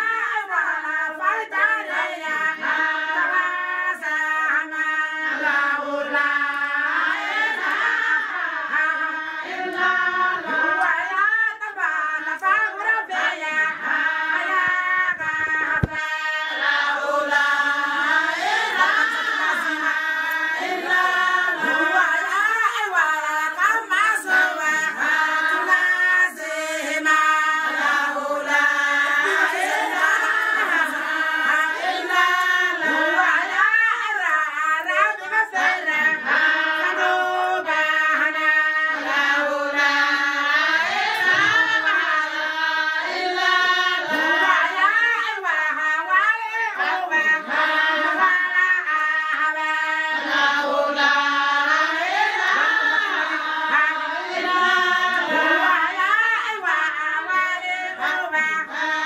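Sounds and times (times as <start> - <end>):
group of women singing: 0.0 - 59.0.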